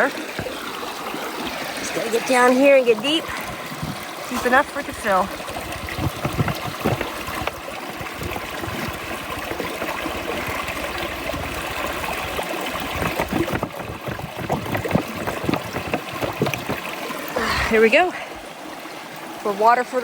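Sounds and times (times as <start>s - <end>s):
water gurgling into container: 0.0s - 19.0s
river water running: 0.0s - 20.0s.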